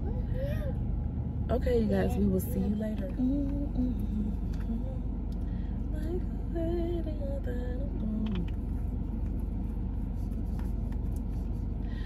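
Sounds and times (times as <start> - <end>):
faint singing from car music: 0.0 - 11.8
car engine rumble and road noise: 0.0 - 12.0.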